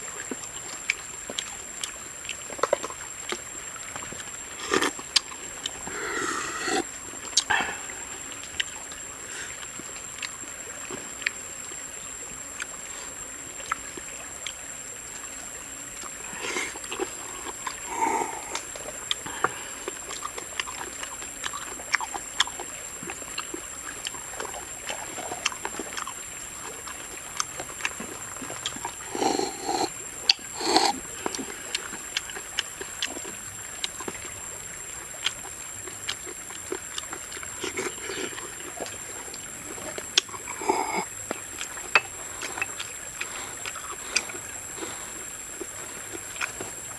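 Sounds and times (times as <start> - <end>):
wet chewing and slurping: 0.0 - 11.6, 12.5 - 46.9.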